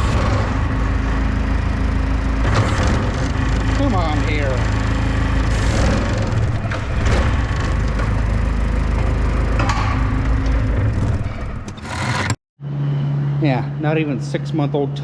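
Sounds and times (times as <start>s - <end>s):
machine engine running: 0.0s - 13.4s.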